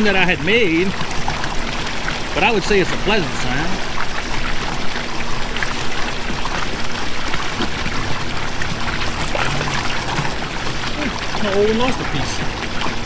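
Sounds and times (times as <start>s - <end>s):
water splashing into pool: 0.0s - 13.0s.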